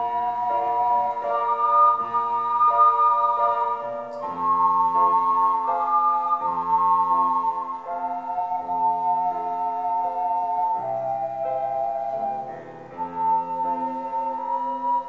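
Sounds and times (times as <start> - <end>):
keyboard organ-like chords: 0.0 - 15.0
ocarinas playing slow melody: 0.0 - 15.0.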